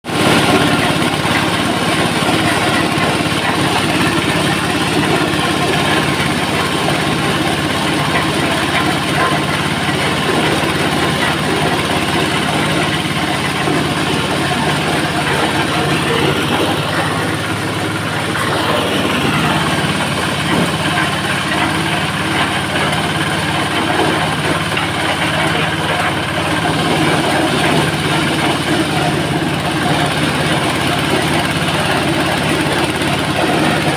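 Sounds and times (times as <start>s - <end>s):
engine hum: 0.1s - 33.9s
rush of shelling and blowers: 0.1s - 33.9s.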